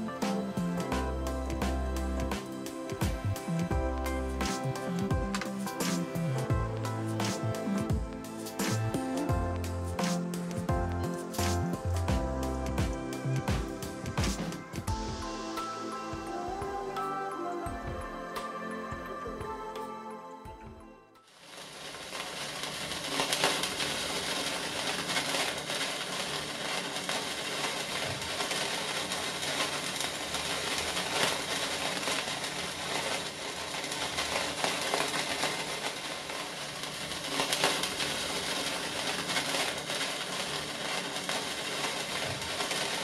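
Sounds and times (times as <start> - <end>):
sparkler fizzing and crackling: 0.0 - 17.7, 21.2 - 43.0.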